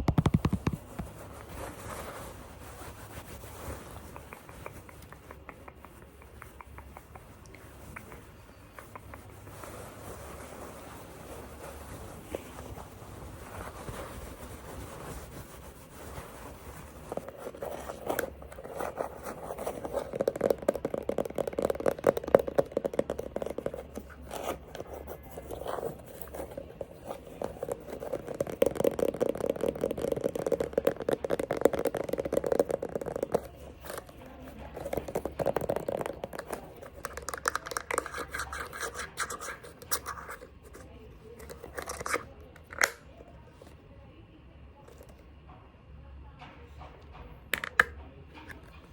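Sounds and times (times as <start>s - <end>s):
scratching and tapping on objects: 0.0s - 43.9s, 44.5s - 48.9s.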